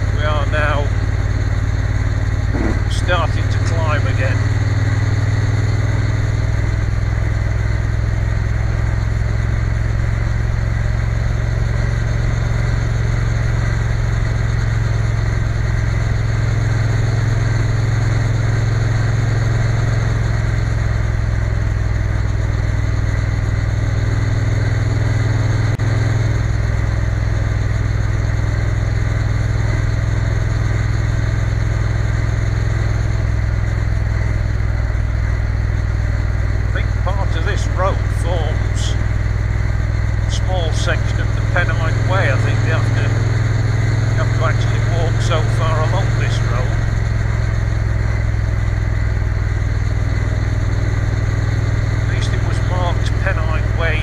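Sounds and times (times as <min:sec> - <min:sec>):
motorcycle engine cruising: 0:00.0 - 0:54.0
road and wind noise: 0:00.0 - 0:54.0.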